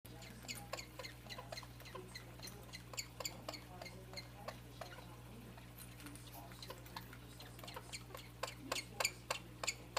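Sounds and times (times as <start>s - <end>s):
small pet squeaking: 0.1s - 9.9s.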